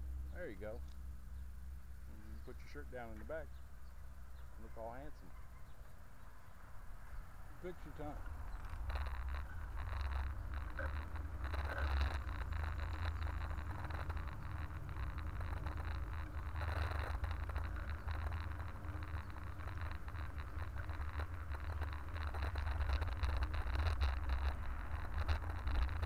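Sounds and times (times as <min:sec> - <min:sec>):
bicycle rolling rumble: 0:00.0 - 0:26.0
bike rattling and scraping: 0:03.2 - 0:26.0.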